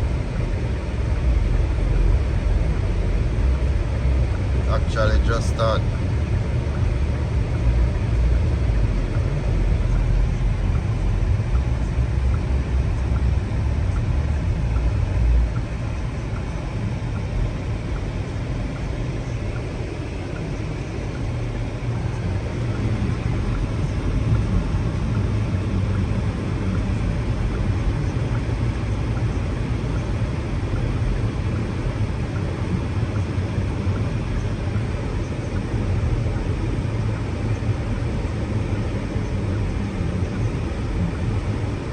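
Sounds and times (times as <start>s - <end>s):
car engine rumble: 0.0s - 41.9s
road noise: 0.0s - 41.9s.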